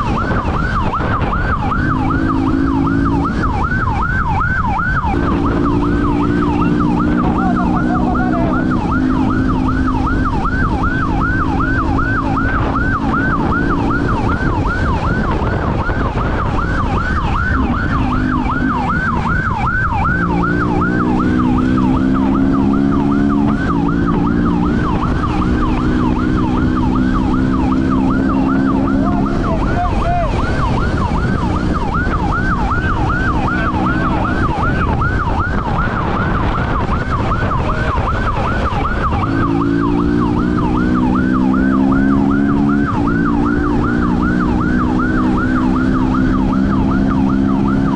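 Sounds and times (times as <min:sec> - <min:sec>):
police siren yelping: 0:00.0 - 0:47.9
road and wind noise: 0:00.0 - 0:47.9.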